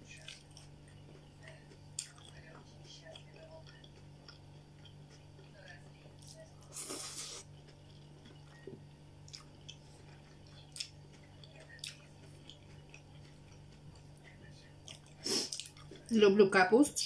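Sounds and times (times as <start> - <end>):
person chewing: 0.0 - 16.1.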